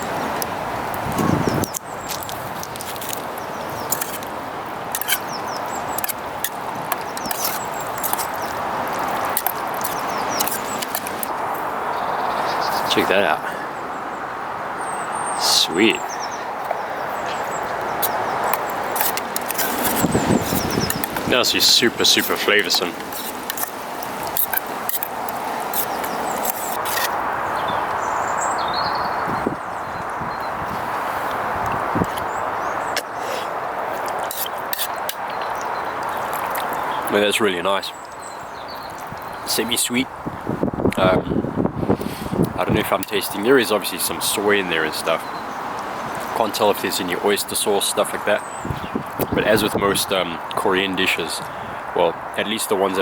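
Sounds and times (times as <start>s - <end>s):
wind noise: 0.0s - 37.2s, 37.8s - 47.3s, 47.9s - 53.0s.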